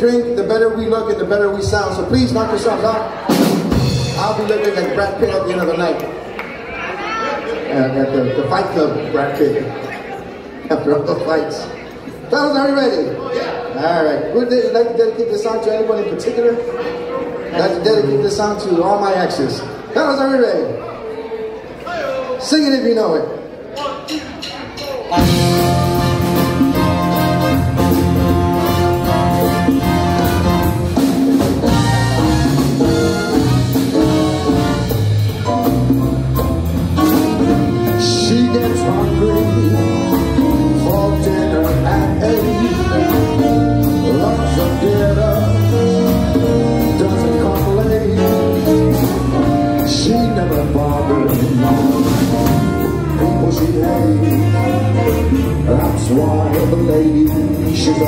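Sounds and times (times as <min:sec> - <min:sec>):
swing big band playing: 0:00.0 - 0:06.4, 0:10.7 - 0:20.8, 0:23.9 - 0:58.0.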